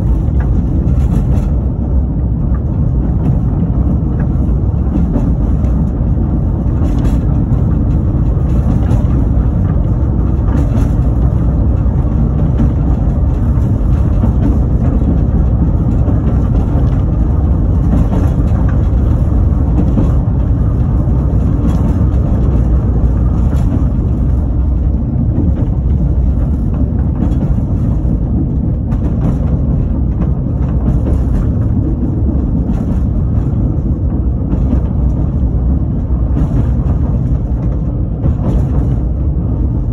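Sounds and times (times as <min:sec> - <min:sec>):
train wheels rumbling on rails: 0:00.0 - 0:39.9
wind: 0:00.0 - 0:39.9.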